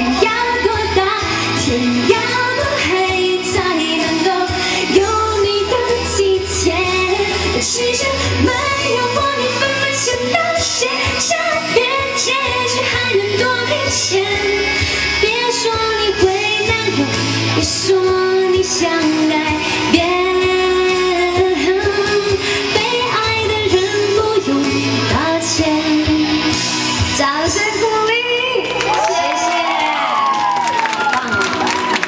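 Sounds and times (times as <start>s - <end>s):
woman singing into microphone: 0.0s - 31.7s
instrumental pop accompaniment: 0.0s - 32.0s.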